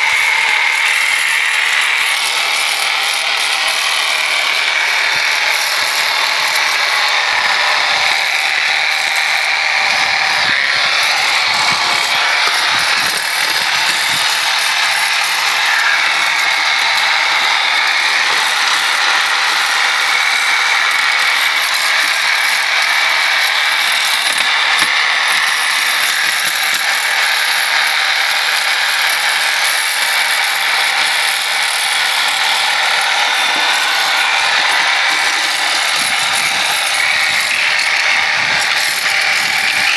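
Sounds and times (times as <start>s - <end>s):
reciprocating saw scraping shells: 0.0s - 39.9s.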